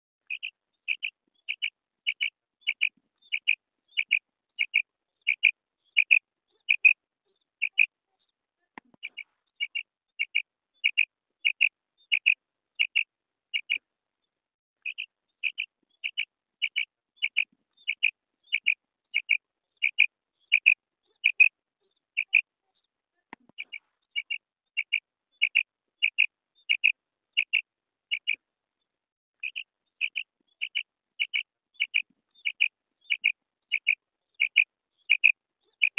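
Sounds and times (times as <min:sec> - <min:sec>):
quail calling: 0:00.2 - 0:07.0, 0:07.6 - 0:07.9, 0:09.0 - 0:13.0, 0:13.6 - 0:13.8, 0:14.8 - 0:22.5, 0:23.6 - 0:28.4, 0:29.4 - 0:35.9.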